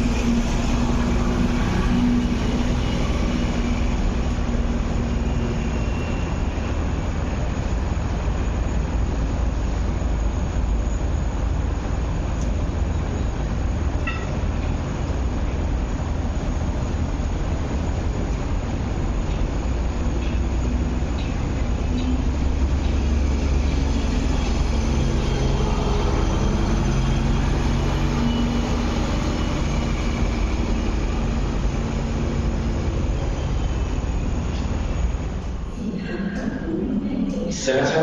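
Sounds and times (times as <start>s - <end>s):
electric train running: 0.0s - 36.0s
road traffic rumble: 0.0s - 38.0s.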